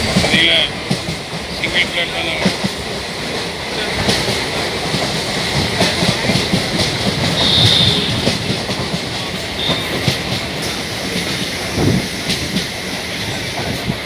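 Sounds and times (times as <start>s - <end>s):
electric train rumbling: 0.0s - 14.0s
wheels clicking over rail joints: 0.0s - 14.0s.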